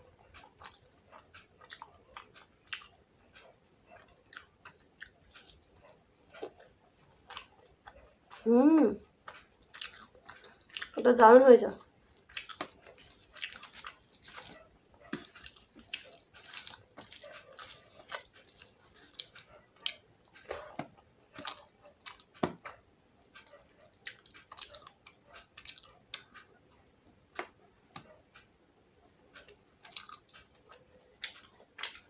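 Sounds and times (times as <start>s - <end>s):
person chewing food: 0.0s - 11.0s, 11.8s - 28.6s, 29.3s - 32.0s.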